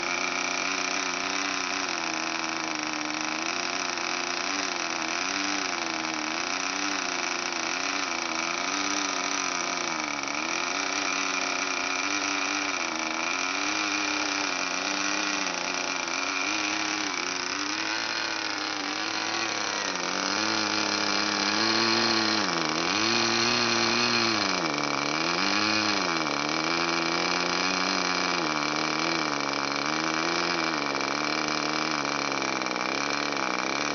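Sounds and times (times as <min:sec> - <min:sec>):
model aircraft engine running: 0:00.0 - 0:33.9.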